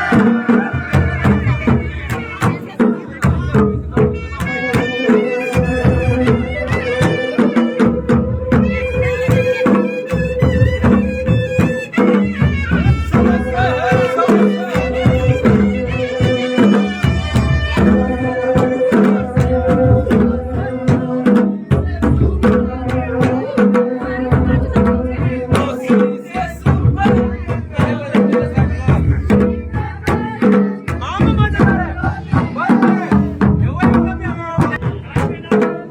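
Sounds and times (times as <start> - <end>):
drums playing: 0.0 - 35.9.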